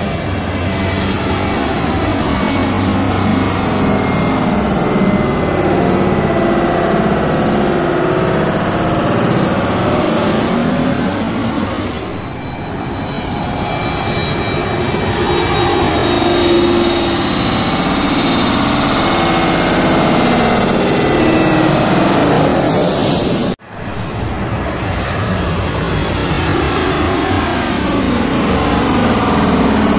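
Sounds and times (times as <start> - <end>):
jet airliner passing overhead: 0.0 - 29.9.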